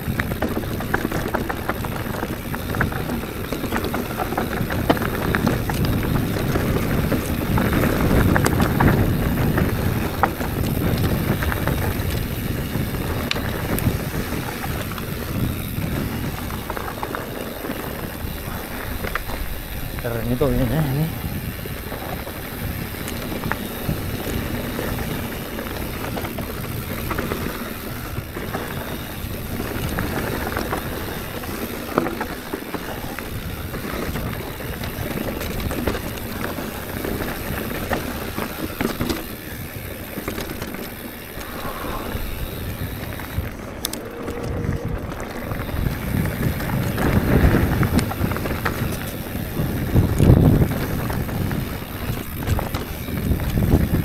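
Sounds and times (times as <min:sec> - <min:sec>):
bike clicks and rattles: 0:00.0 - 0:54.0
tyres rolling over dirt and stones: 0:00.0 - 0:54.0
wind on microphone: 0:00.0 - 0:54.0.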